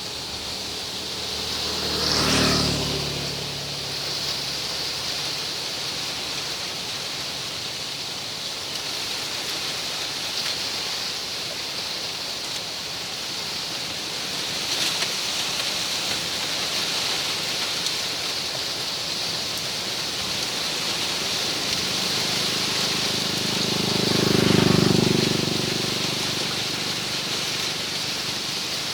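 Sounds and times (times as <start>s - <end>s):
wind rustling palm fronds: 0.0s - 28.9s.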